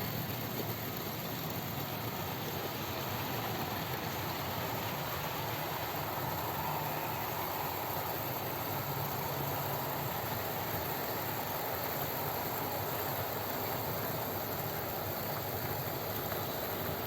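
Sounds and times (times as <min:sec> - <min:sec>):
model trains rumbling on rails: 0:00.0 - 0:17.0.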